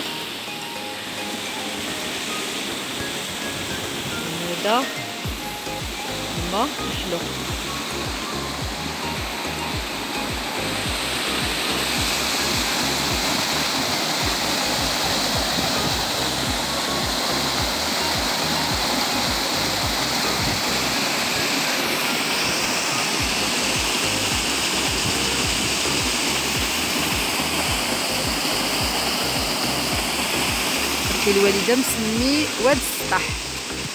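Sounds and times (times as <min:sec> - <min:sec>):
water rushing over rocks: 0:00.0 - 0:33.9.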